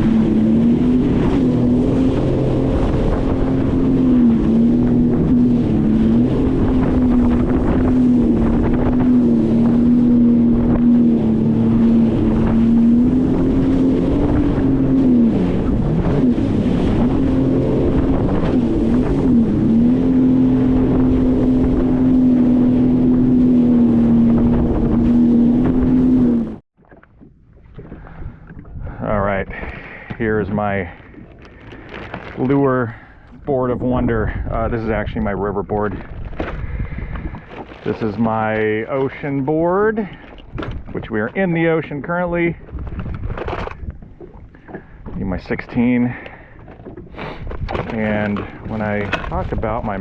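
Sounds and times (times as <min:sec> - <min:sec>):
watercraft engine drone: 0:00.0 - 0:50.0.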